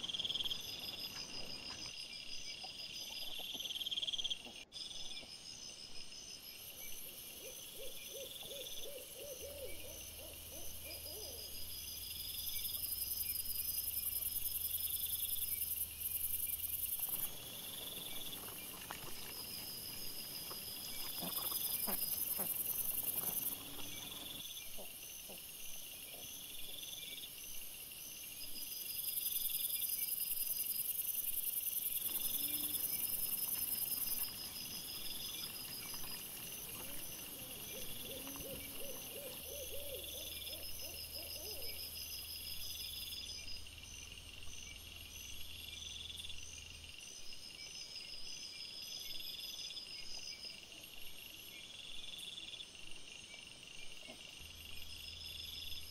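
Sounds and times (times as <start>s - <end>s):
crickets chirping: 0.0s - 55.9s.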